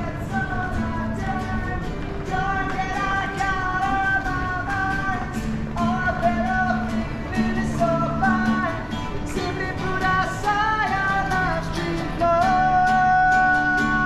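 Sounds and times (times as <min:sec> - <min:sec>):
guitar: 0:00.0 - 0:14.0
person singing: 0:00.0 - 0:14.0.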